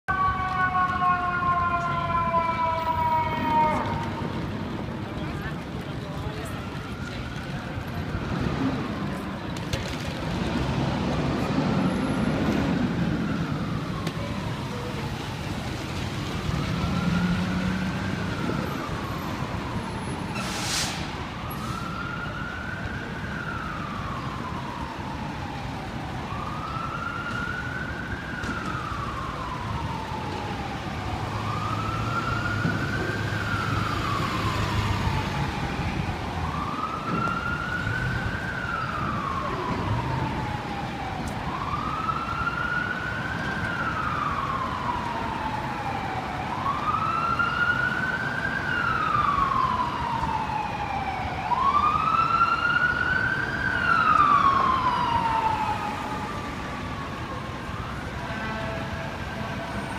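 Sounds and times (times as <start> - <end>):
emergency vehicle siren wailing: 0.0 - 59.9
higher siren: 0.1 - 4.6, 10.8 - 59.9
street traffic rumble: 0.1 - 59.9.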